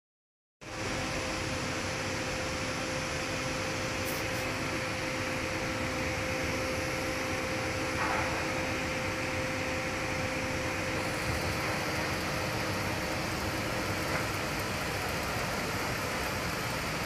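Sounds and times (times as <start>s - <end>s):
machinery hum with steady tone: 0.6s - 17.0s.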